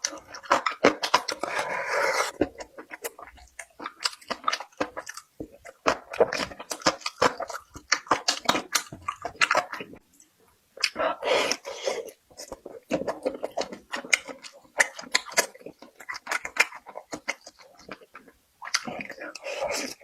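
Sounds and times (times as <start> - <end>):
mouth chewing wet clicks: 2.2 - 20.0.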